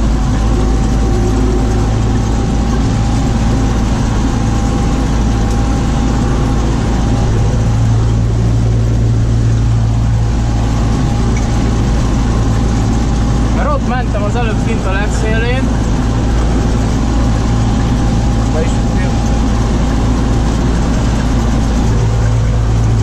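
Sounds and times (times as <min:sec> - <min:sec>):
faint constant whine: 0:00.0 - 0:23.0
tractor engine droning: 0:00.0 - 0:23.0.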